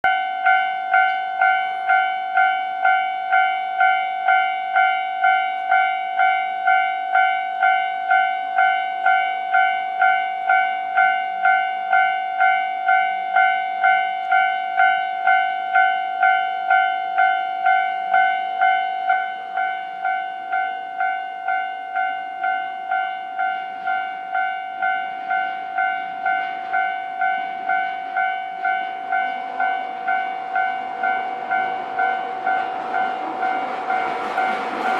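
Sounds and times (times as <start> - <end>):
level-crossing warning bell: 0.0 - 34.9
electric train rumble: 0.1 - 34.9.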